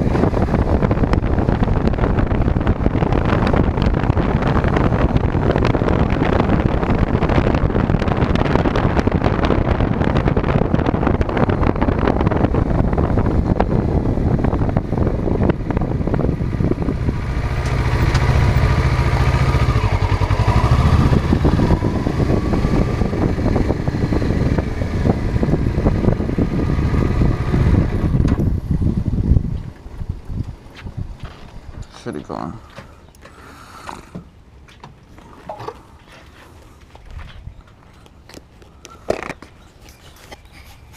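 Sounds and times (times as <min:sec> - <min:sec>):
wind buffeting microphone: 0:00.0 - 0:33.8
road noise: 0:00.0 - 0:40.9
vehicle engine hum: 0:00.0 - 0:40.9.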